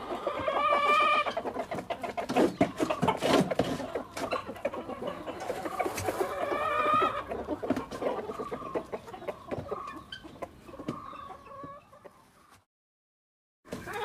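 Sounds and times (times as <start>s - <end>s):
drawn-out chicken call: 0.0s - 12.6s, 13.7s - 14.0s
chickens clucking: 0.0s - 12.7s, 13.7s - 14.0s.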